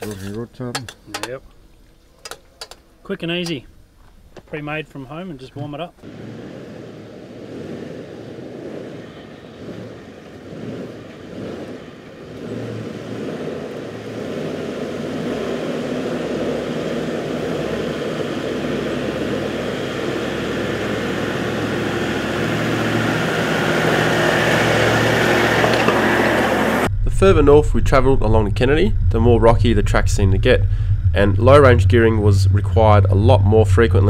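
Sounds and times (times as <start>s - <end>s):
vehicle engine and tyre noise: 6.0s - 34.0s.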